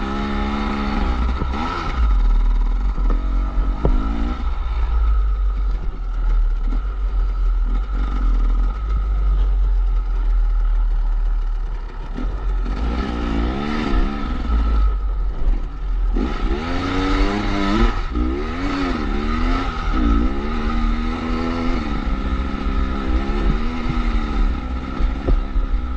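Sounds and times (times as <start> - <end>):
steady low rumble: 0.0 - 25.9
two-stroke engine revving: 0.0 - 25.9.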